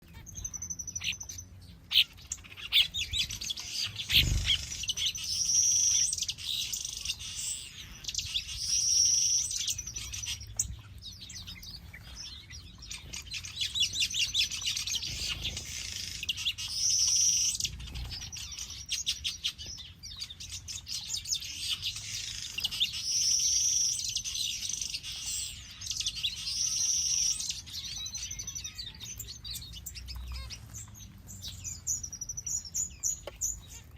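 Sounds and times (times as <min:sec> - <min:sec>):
bird song phrase: 0:00.0 - 0:33.9
small birds chirping and twittering: 0:00.0 - 0:33.9.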